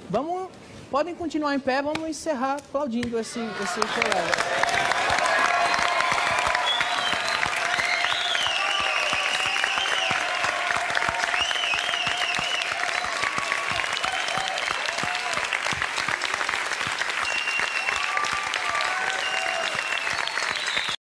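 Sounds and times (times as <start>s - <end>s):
audience applauding: 3.4s - 21.0s.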